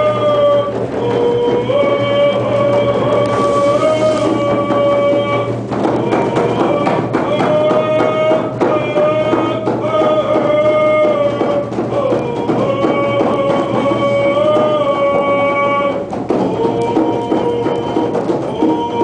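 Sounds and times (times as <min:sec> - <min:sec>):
person singing sliding notes: 0:00.0 - 0:19.0
steady drumbeat: 0:00.0 - 0:19.0.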